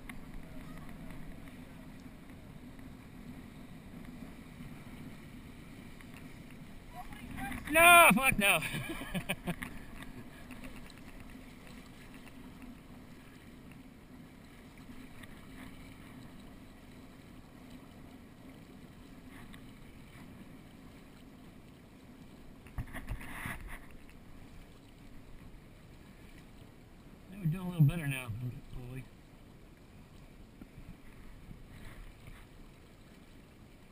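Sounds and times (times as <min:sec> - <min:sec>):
water rushing along hull: 0:00.0 - 0:33.9.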